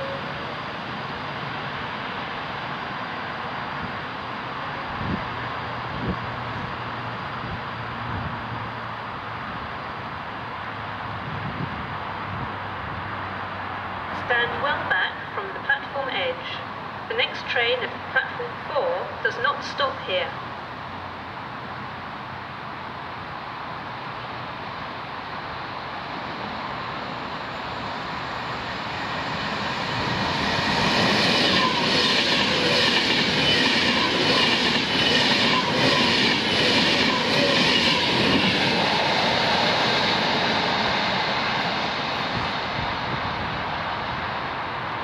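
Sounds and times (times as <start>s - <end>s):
electric train passing: 0.0s - 45.0s.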